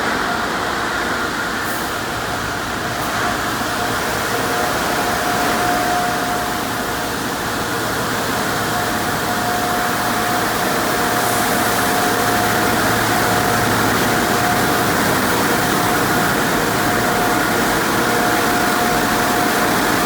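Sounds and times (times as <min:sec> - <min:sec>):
car wash equipment rushing: 0:00.0 - 0:20.0.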